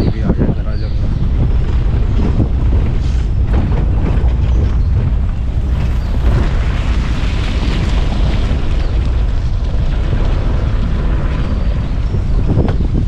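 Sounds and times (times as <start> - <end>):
road noise: 0.0 - 13.0
vehicle engine rumble: 0.0 - 13.0
wind buffeting microphone: 0.0 - 13.0.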